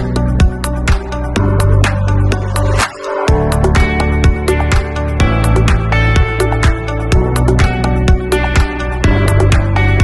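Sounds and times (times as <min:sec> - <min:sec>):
electronic music with fast drum beat: 0:00.0 - 0:10.0.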